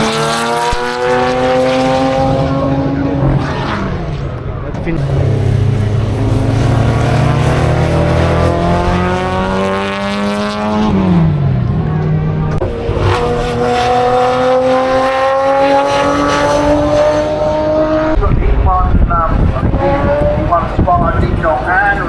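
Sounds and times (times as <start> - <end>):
racing car engine at full throttle: 0.0 - 22.0.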